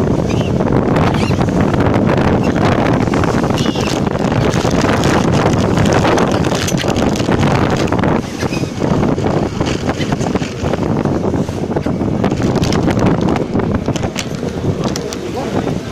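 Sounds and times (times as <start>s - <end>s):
boat engine: 0.0s - 15.9s
boat wash: 0.0s - 15.9s
wind buffeting microphone: 0.0s - 15.9s.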